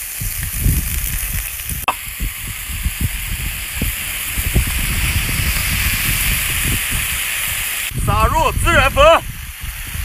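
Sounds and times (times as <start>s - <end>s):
meat sizzling on a griddle: 0.0s - 10.0s
low bumps: 0.3s - 10.0s.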